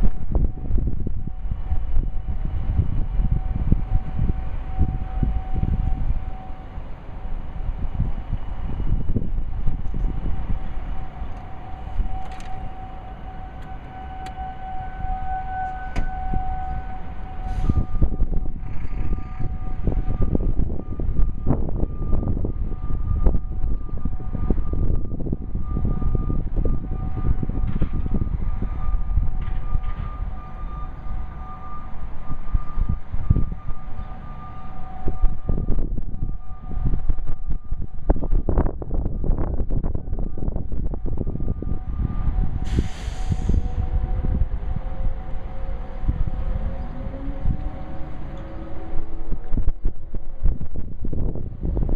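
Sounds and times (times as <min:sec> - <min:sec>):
distant warning sirens wailing: 0:00.0 - 0:51.9
wind rumble on microphone: 0:00.0 - 0:51.9.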